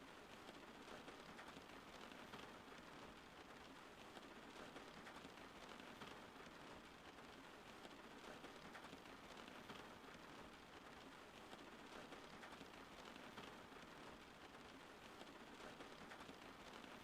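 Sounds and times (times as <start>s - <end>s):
faint rain falling: 0.0s - 17.0s.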